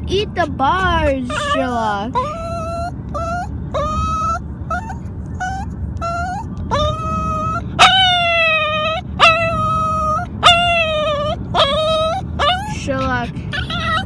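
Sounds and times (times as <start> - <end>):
low car rumble: 0.0 - 14.0
puppy whining howls: 1.3 - 14.0.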